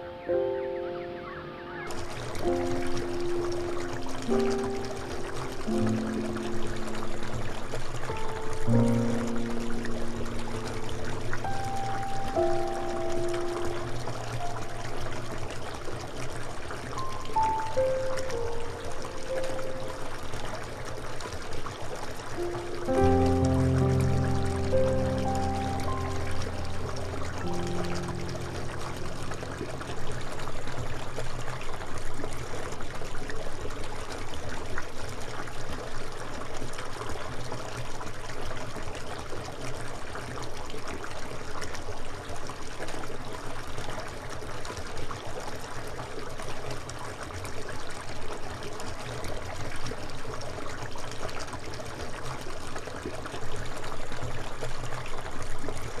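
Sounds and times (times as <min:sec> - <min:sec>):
water running and trickling: 0:01.8 - 0:56.0.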